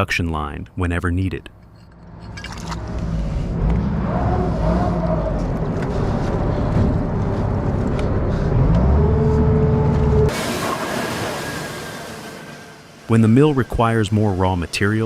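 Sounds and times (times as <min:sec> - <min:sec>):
boat engine running: 0:02.0 - 0:15.0.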